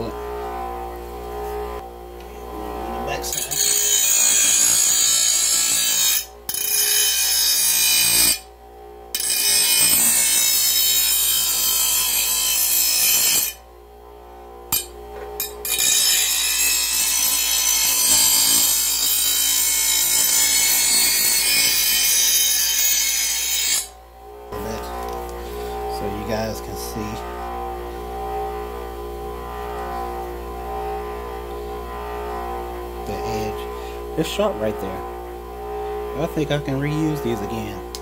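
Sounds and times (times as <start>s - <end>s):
grinder motor running: 0.0s - 38.0s
grinder wheel grinding steel: 0.0s - 38.0s.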